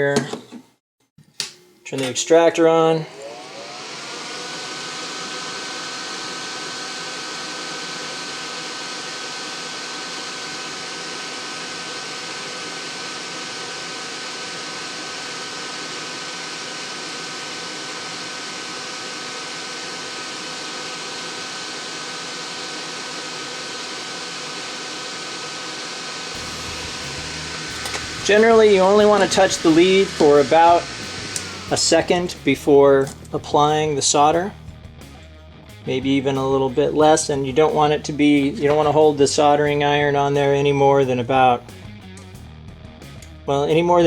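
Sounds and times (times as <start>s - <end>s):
extractor fan whine and hiss: 2.4s - 34.4s, 36.0s - 41.8s.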